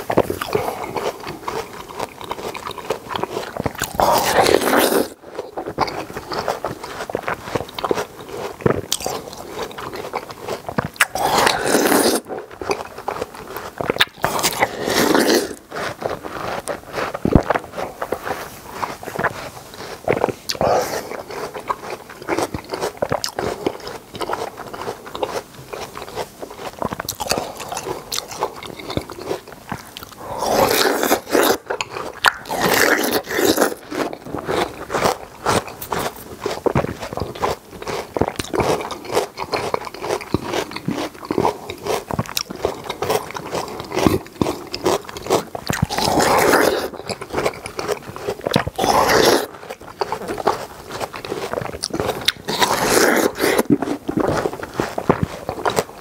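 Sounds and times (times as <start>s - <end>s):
person chewing watermelon: 0.0s - 56.0s.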